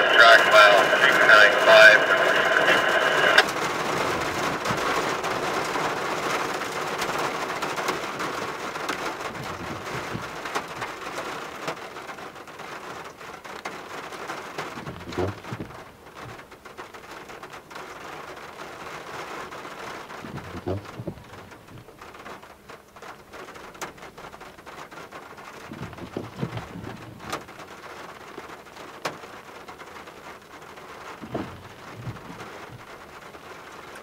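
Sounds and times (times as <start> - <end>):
heavy rain drumming on roof: 0.0 - 34.0
windshield wiper sweeping: 0.0 - 34.0.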